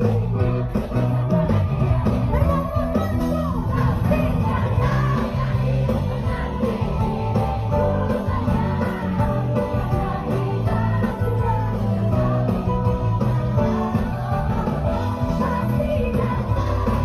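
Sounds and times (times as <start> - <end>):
live pop band playing: 0.0 - 17.0
woman singing: 0.0 - 17.0.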